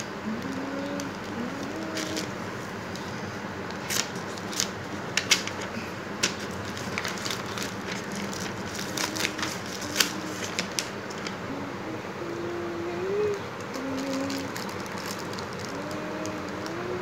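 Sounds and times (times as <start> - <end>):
wrapper crinkling: 0.0 - 11.4, 13.7 - 17.0.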